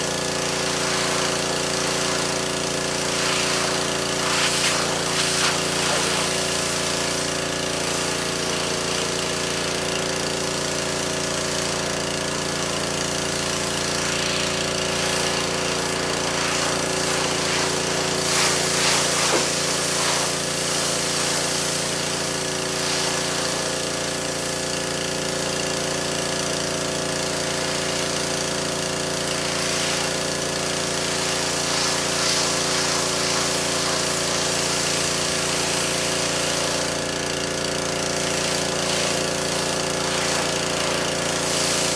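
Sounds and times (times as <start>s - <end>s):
water jet hissing: 0.0s - 10.6s, 11.5s - 24.8s, 27.0s - 41.9s
pressure washer hum: 0.0s - 41.9s.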